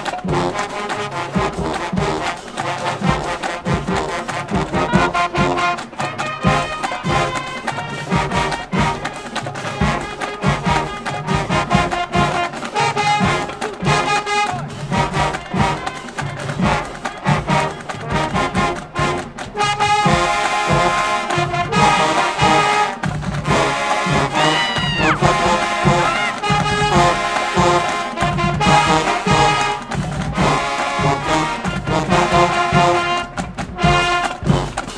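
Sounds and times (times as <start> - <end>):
marching band with brass: 0.0 - 34.9.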